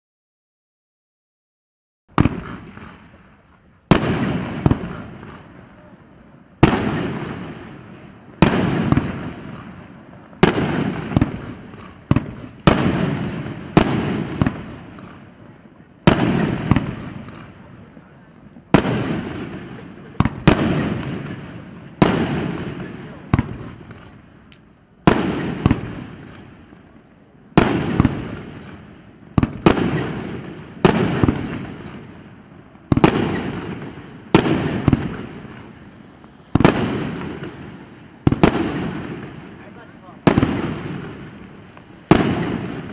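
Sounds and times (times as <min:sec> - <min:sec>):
fireworks bangs: 0:02.1 - 0:42.9.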